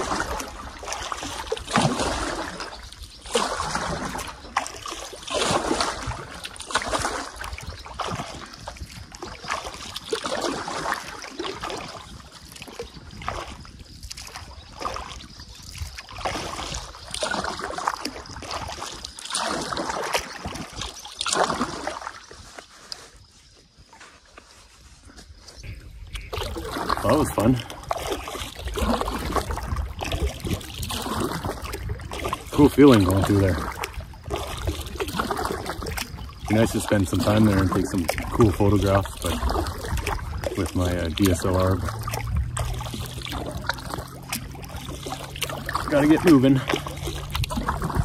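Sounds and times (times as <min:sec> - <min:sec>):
water dripping off paddle: 0:00.0 - 0:23.1, 0:25.9 - 0:48.0
canoe paddle swishing water: 0:00.0 - 0:48.0.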